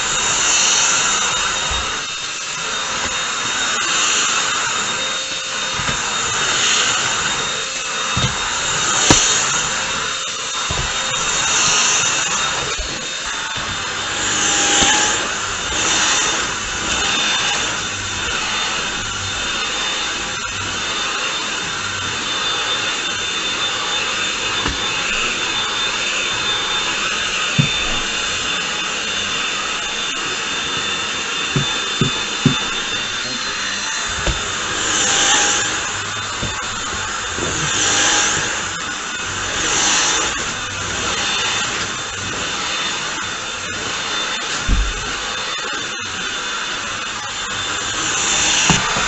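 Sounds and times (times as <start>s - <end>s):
stick vacuum whining: 0.0s - 49.0s.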